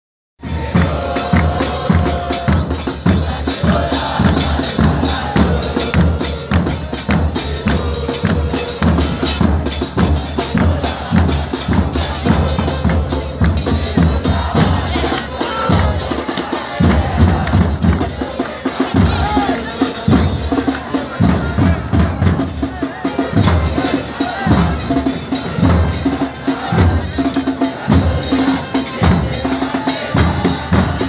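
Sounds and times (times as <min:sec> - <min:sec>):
crowd noise: 0:00.4 - 0:31.0.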